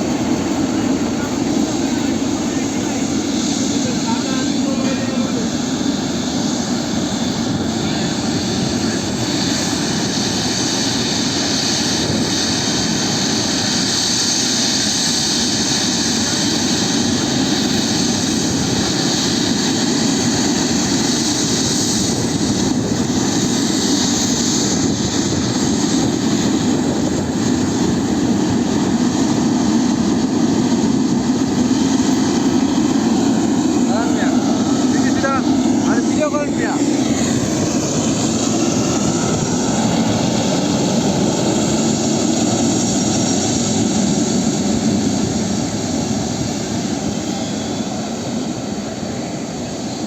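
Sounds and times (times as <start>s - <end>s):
jet engines whining and rumbling: 0.0s - 50.0s.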